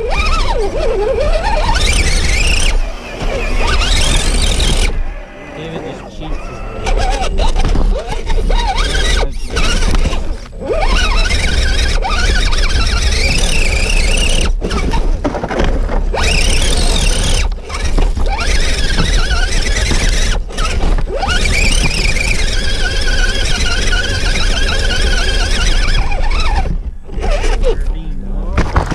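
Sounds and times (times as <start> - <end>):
toy car motor and gear whine: 0.0 - 28.9.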